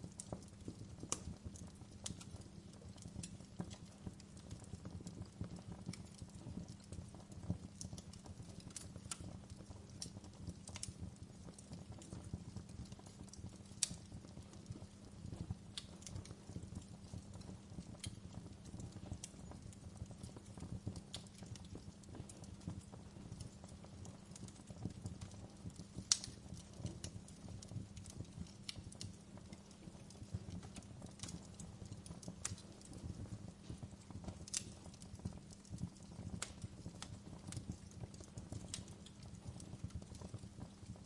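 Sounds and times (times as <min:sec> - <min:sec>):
burning wood crackling and popping: 0:00.0 - 0:41.0
fire flames rumbling: 0:00.0 - 0:41.0.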